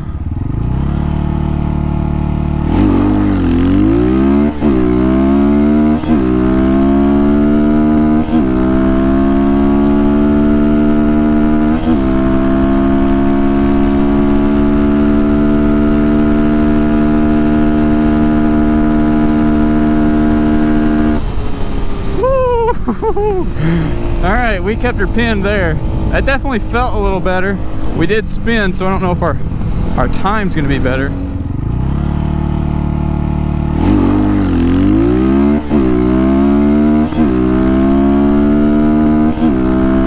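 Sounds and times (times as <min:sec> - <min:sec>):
dirt bike engine accelerating: 0:00.0 - 0:40.0.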